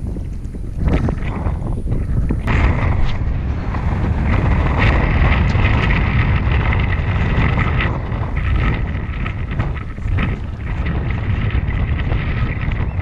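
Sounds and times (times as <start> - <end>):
choppy water splashes: 0.0 - 13.0
wind buffeting microphone: 0.0 - 13.0.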